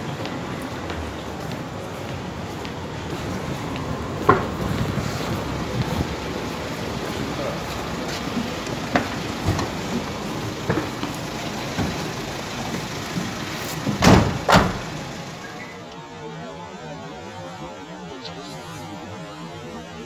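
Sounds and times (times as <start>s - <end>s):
street bustle: 0.0s - 20.0s.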